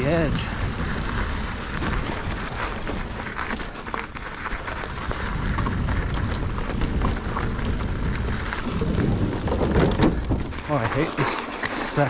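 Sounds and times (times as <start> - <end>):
bike tyres rolling on icy trail: 0.0 - 12.0.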